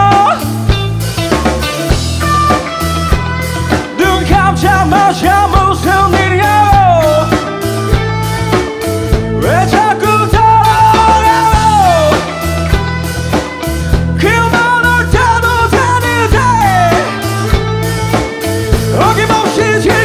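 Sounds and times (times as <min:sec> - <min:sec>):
bass guitar: 0:00.0 - 0:20.0
drum kit: 0:00.0 - 0:20.0
lead electric guitar: 0:00.0 - 0:20.0.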